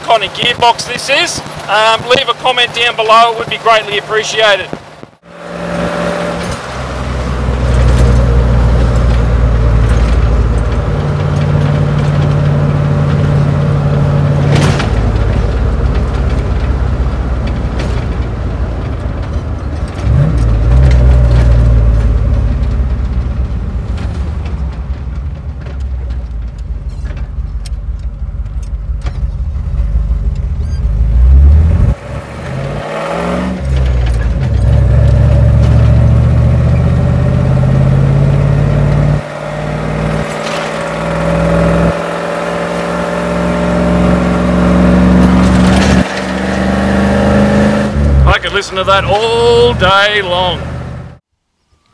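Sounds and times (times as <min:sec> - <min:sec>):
truck engine accelerating: 0:00.0 - 0:51.2.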